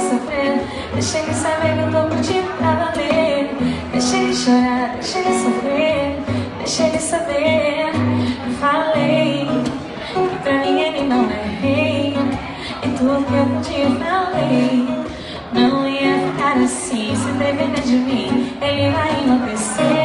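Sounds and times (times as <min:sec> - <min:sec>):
acoustic guitar playing: 0:00.0 - 0:20.0
woman singing into a microphone: 0:00.0 - 0:20.0.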